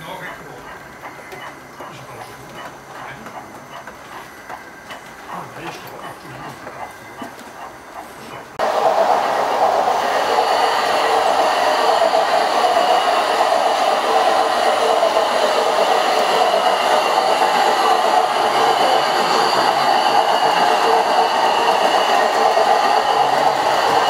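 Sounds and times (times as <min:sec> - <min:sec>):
model train rolling hum: 0:00.0 - 0:24.0.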